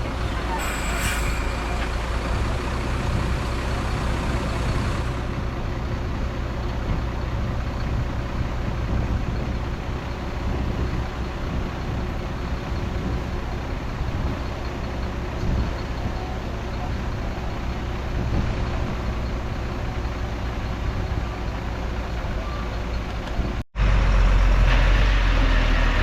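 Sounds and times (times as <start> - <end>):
heavy diesel engine rumbling: 0.0 - 26.0.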